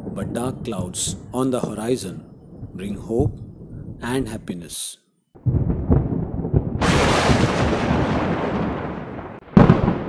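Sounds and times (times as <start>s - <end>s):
thunder rumbling and cracking: 0.0s - 4.5s, 5.4s - 10.0s.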